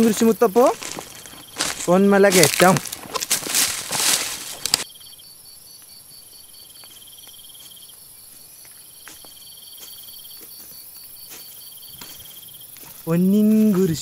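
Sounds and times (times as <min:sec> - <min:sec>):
insects high steady trills: 0:00.0 - 0:14.0
insects pulsing chirp: 0:00.0 - 0:14.0.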